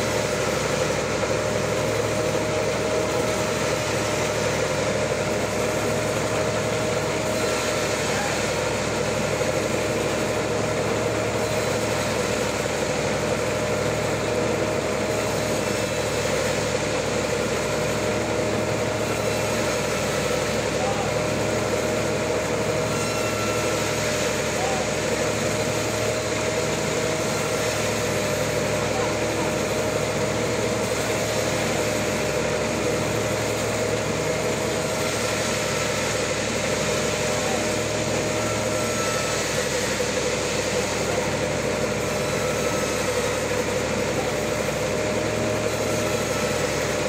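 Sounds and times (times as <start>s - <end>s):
band saw cutting log: 0.0s - 47.0s.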